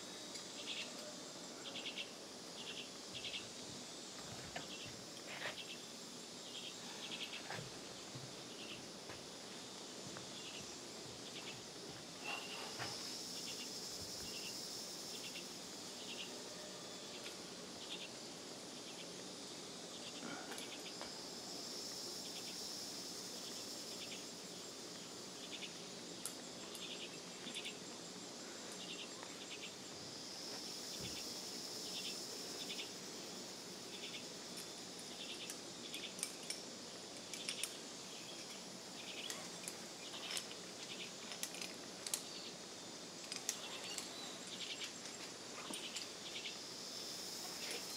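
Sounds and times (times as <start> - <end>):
insects chirping and buzzing: 0.0 - 47.9.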